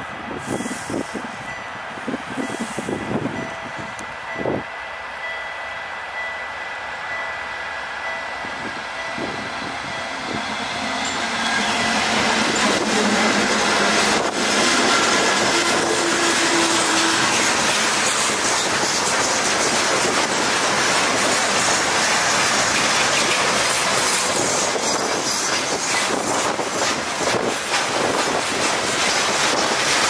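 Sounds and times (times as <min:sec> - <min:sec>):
diesel locomotive passing: 0:00.0 - 0:30.0
train wheels rolling on rails: 0:00.0 - 0:30.0.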